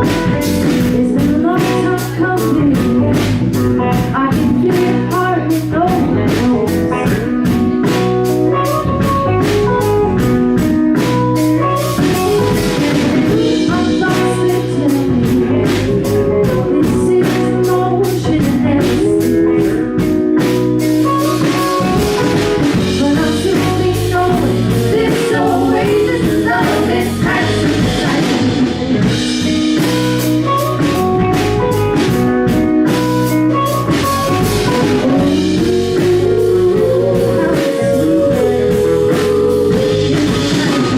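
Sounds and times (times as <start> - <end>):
person singing: 0.0 - 9.2, 11.9 - 20.6, 21.2 - 29.1, 34.0 - 40.9
drum kit beat: 0.0 - 40.9
guitar: 0.0 - 40.9.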